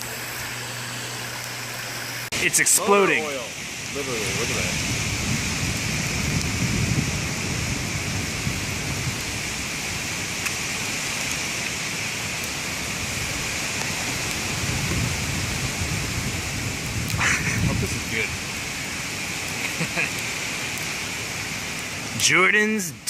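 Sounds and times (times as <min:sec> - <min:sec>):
campfire hissing: 0:00.0 - 0:23.0
fire crackles: 0:00.0 - 0:23.0.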